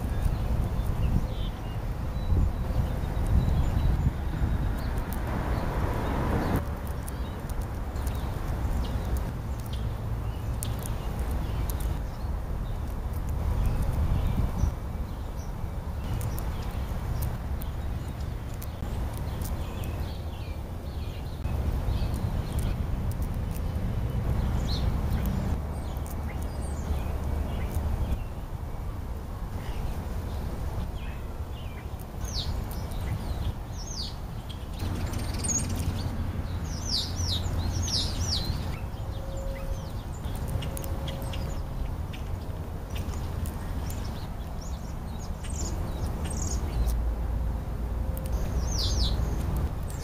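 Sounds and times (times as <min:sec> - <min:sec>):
squirrel chewing food: 0:00.0 - 0:39.0, 0:39.6 - 0:50.0
wind rumble on microphone: 0:00.0 - 0:50.0.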